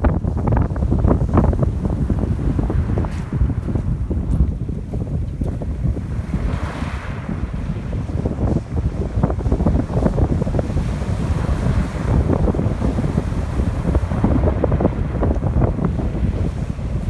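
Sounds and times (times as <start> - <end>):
surf washing onto beach: 0.0 - 17.0
wind buffeting microphone: 0.0 - 17.0.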